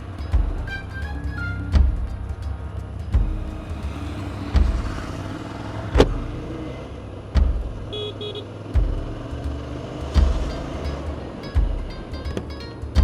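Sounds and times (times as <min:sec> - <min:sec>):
traffic engine hum: 0:00.0 - 0:13.0.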